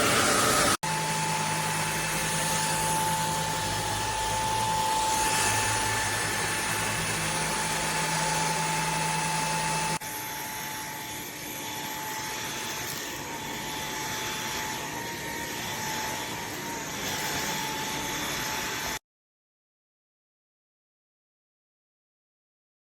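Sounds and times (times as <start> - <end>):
stick vacuum running: 0.0 - 18.8.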